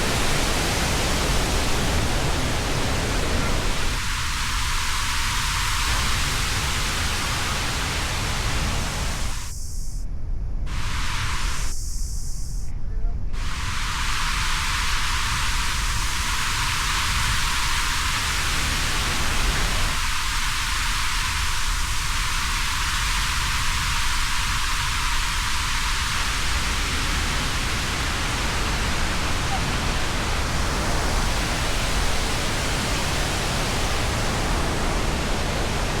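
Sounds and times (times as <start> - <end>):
waterfall rushing: 0.0 - 9.3, 13.4 - 36.0.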